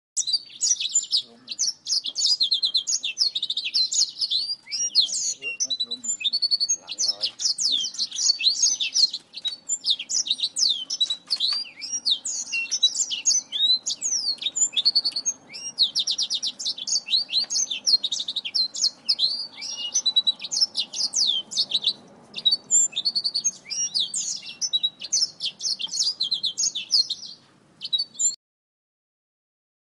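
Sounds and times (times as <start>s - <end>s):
finches chirping: 0.2s - 28.4s.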